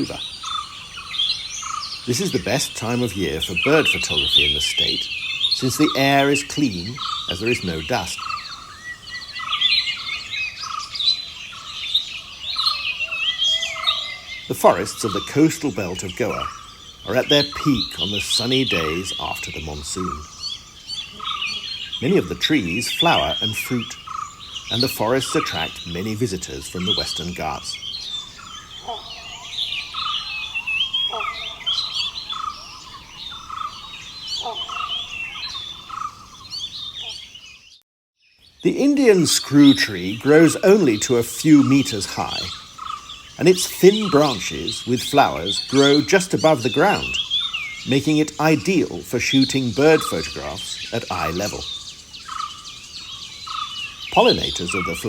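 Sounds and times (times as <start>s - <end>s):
forest birds chirping and whistling: 0.0s - 55.0s.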